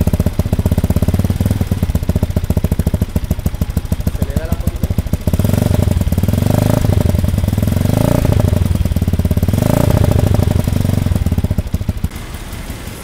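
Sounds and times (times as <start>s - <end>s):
motorcycle engine revving and idling: 0.0s - 13.0s.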